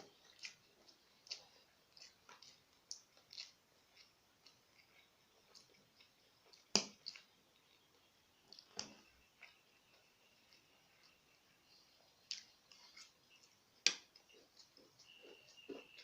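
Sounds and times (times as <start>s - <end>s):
person chewing with mouth smacks: 0.0s - 16.0s.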